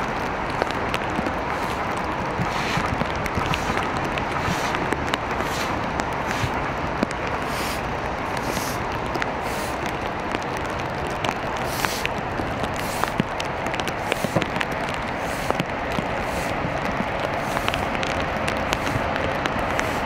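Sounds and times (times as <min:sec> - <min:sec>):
footsteps splashing on wet stone: 0:00.0 - 0:20.0
rain on wet paving: 0:00.0 - 0:20.0.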